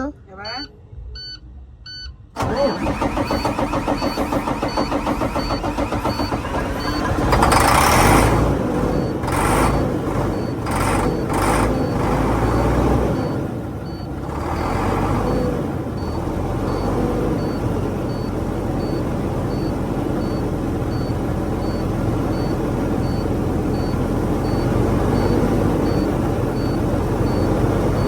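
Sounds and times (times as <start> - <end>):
faint warning beep: 0.0 - 7.1, 10.3 - 28.0
diesel engine cranking: 2.3 - 28.0.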